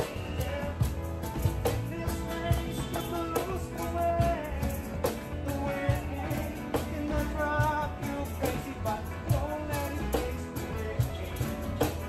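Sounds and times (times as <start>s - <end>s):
person singing: 0.0s - 1.0s, 1.6s - 12.0s
acoustic guitar strummed: 0.0s - 12.0s
low bass: 0.0s - 12.0s.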